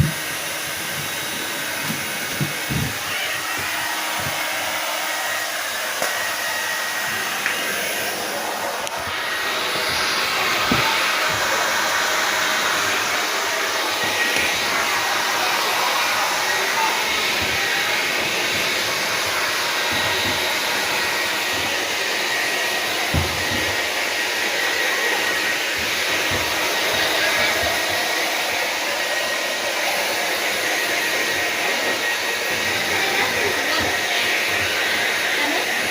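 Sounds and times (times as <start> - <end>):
hair dryer blowing: 0.0 - 35.9.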